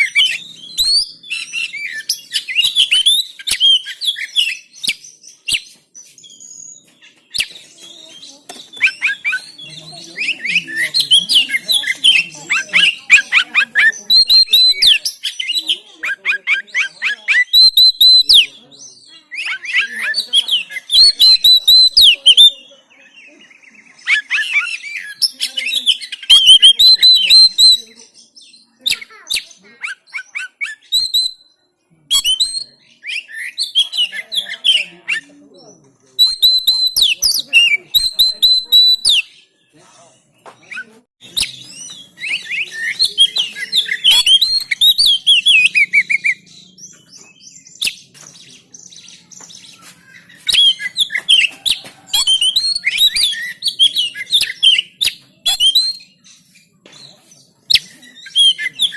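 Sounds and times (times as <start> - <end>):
bird singing whistles and chirps: 0.0 - 39.6, 40.4 - 58.9.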